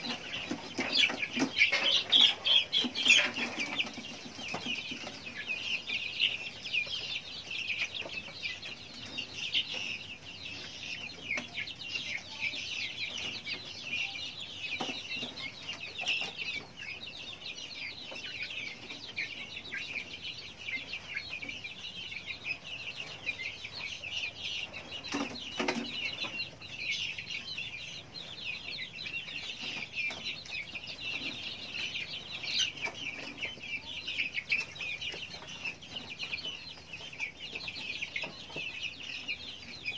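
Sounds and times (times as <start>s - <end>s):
chicks cheeping: 0.0s - 39.9s.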